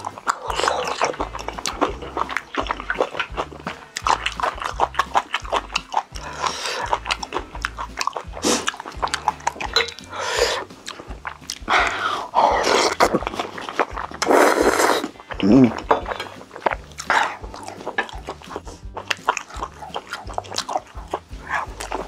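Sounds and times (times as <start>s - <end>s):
mouth clicks and smacks: 0.0s - 22.0s
wet chewing: 0.0s - 22.0s.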